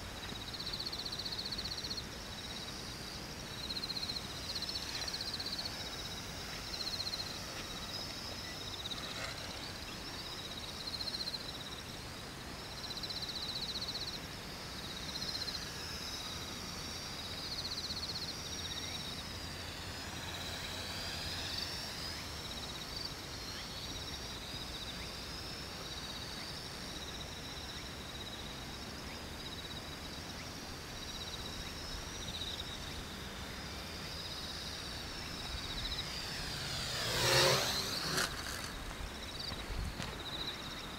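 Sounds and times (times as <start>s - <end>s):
quadcopter rotors whining: 0.3s - 27.0s, 29.6s - 40.9s.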